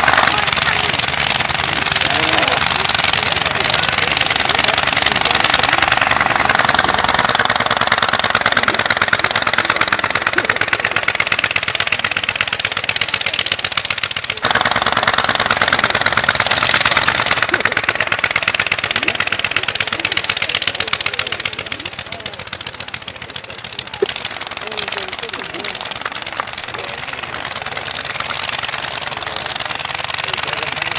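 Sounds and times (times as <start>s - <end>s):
aircraft engine exhaust pops: 0.0s - 30.9s.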